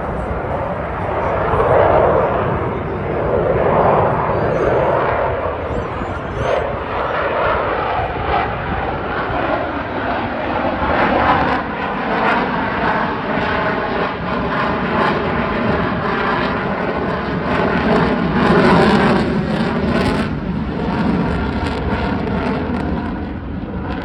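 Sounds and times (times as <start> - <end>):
military aircraft engine: 0.0 - 24.0.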